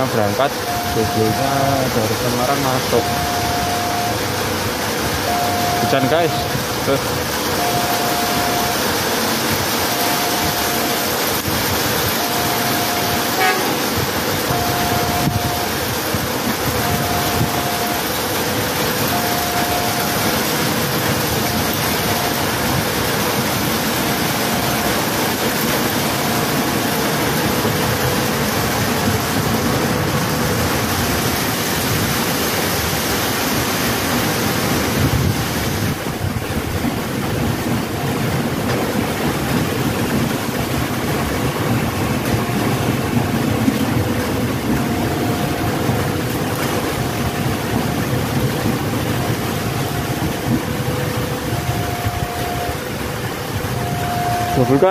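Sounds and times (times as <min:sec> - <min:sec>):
electric train passing: 0:00.0 - 0:54.9
rain: 0:00.0 - 0:54.9
wind noise on microphone: 0:03.0 - 0:54.9.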